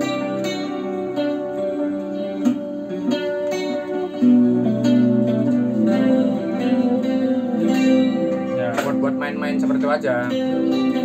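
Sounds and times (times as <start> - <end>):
clean electric guitar solo: 0.0 - 11.0.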